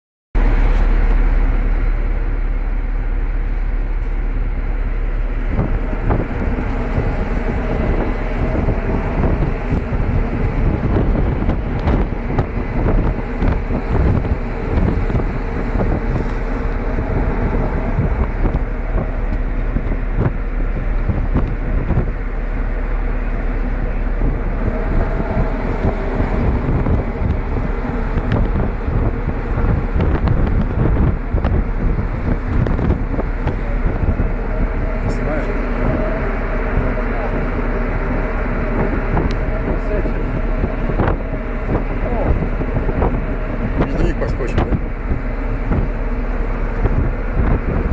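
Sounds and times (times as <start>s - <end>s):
bow wave rushing along hull: 0.4s - 47.9s
ship engine running: 0.4s - 47.9s
wind buffeting microphone: 0.4s - 47.9s.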